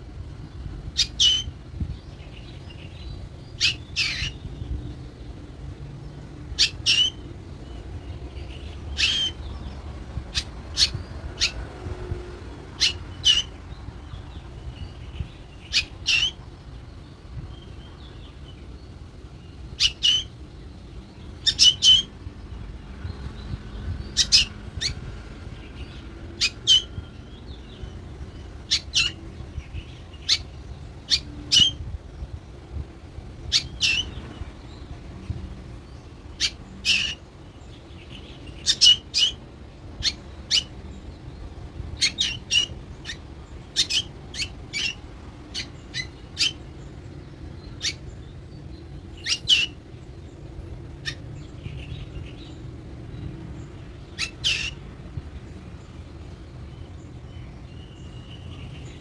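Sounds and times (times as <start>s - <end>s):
bird high chirps: 0.9s - 5.4s, 6.6s - 11.7s, 12.7s - 55.2s, 55.8s - 59.0s.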